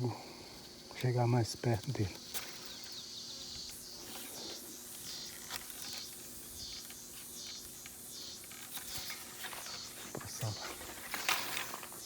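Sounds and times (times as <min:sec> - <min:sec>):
faint steady hum: 0:00.0 - 0:12.0
insects chirring: 0:00.0 - 0:12.0.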